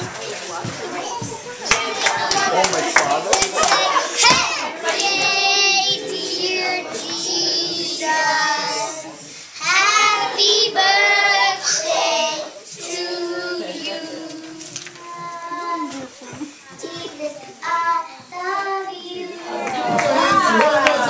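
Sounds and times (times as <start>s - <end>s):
young children singing: 1.2s - 2.8s, 3.6s - 16.1s, 16.8s - 20.8s.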